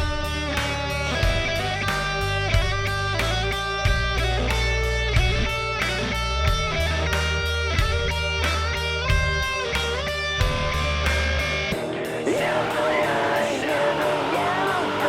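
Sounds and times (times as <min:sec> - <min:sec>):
electric guitar lead: 0:00.0 - 0:15.0
heavy bass line: 0:00.0 - 0:15.0
steady drums: 0:00.0 - 0:15.0.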